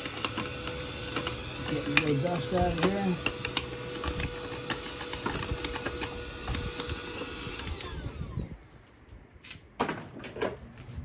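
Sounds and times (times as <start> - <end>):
motor winding down: 0.0 - 9.0
small electric tool whining: 0.0 - 9.2.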